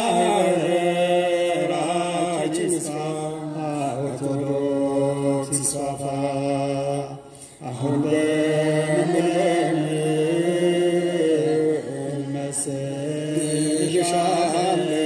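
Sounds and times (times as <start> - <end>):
men chanting a hymn: 0.0 - 15.0.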